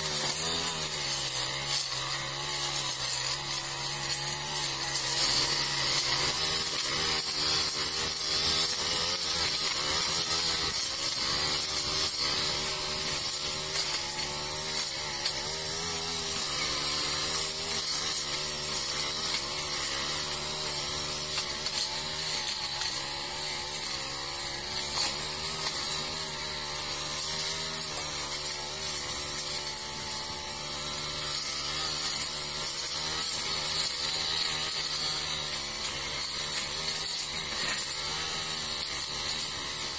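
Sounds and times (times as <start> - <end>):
brush cutter engine running: 0.0 - 39.9
nylon line cutting weeds: 0.0 - 39.9.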